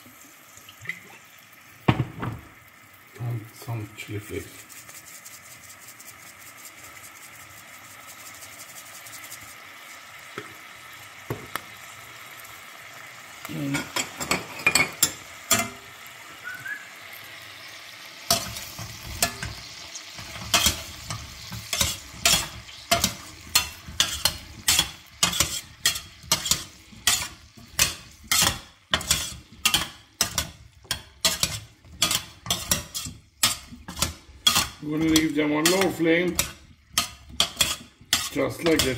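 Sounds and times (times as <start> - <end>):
potatoes sizzling in a pan: 0.0 - 38.9.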